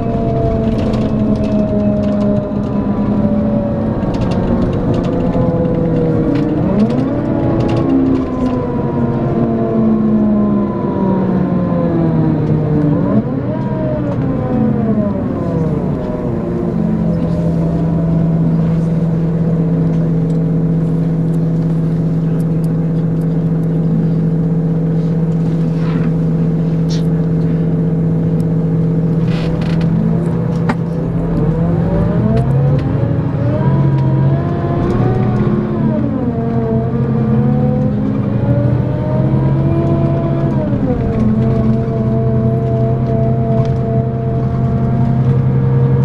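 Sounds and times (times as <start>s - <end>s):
diesel coach engine revving: 0.0s - 46.0s.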